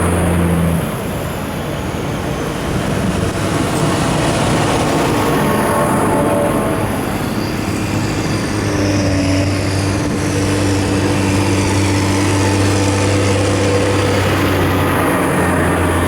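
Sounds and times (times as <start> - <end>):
tractor engine driving by: 0.0 - 16.0.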